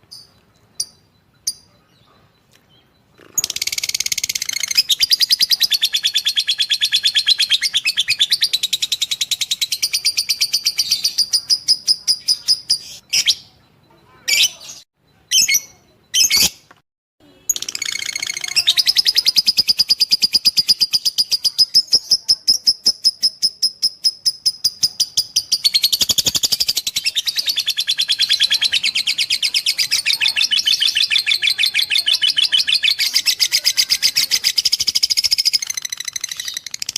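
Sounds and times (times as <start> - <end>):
lovebird chattering trill: 0.1 - 16.6, 17.2 - 36.9.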